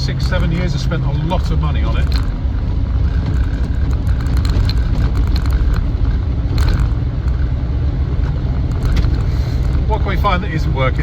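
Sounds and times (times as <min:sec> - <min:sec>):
car engine running: 0:00.0 - 0:11.0
road rumble: 0:00.0 - 0:11.0.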